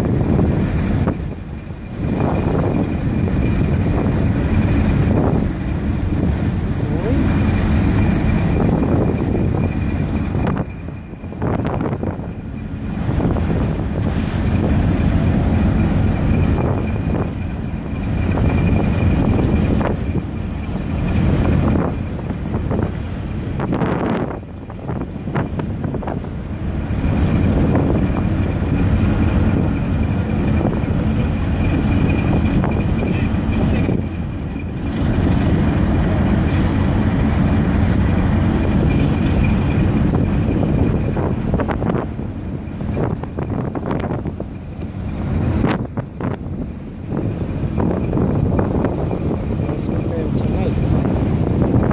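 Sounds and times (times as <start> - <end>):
ship engine drone: 0.0 - 51.9
wind buffeting microphone: 0.0 - 51.9.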